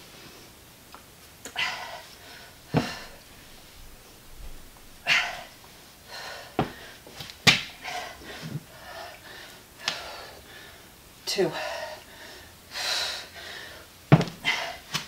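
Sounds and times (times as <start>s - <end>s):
woman breathing hard: 1.5s - 3.7s, 5.0s - 15.0s.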